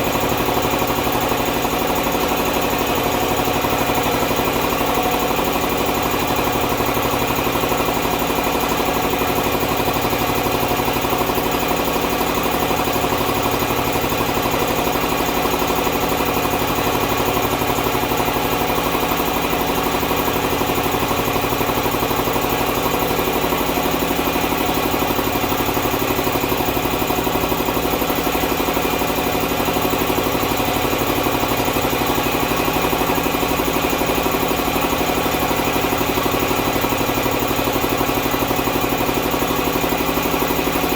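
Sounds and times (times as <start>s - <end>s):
air compressor pump chugging: 0.0s - 40.9s.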